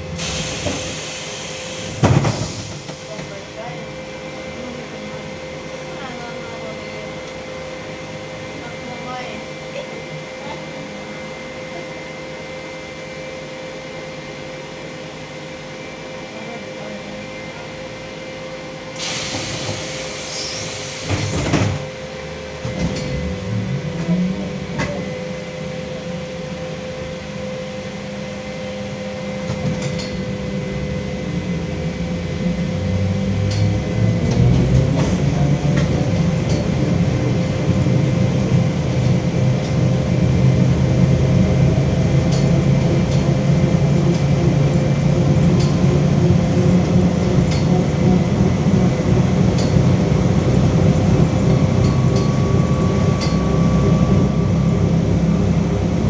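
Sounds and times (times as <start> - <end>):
trolleybus motor hum: 0.0 - 56.0.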